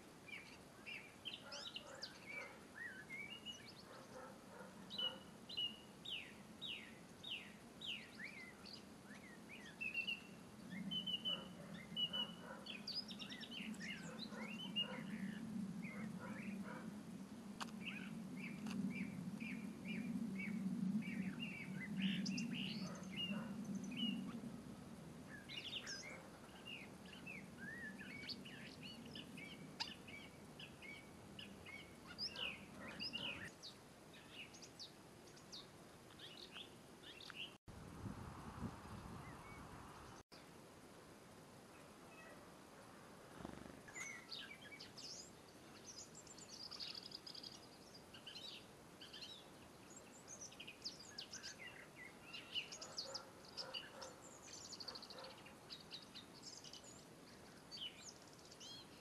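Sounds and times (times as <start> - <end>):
songbirds chirping: 0.0 - 37.6, 38.7 - 59.0.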